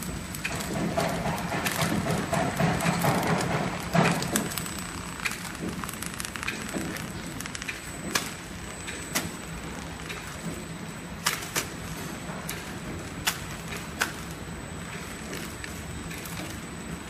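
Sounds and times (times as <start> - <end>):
machine clacks: 0.0 - 17.0
wrapping machine humming: 0.0 - 17.0.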